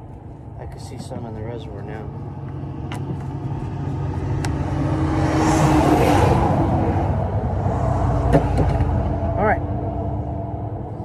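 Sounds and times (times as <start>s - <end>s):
low engine rumble: 0.0s - 11.0s
vehicle passing by: 1.0s - 11.0s.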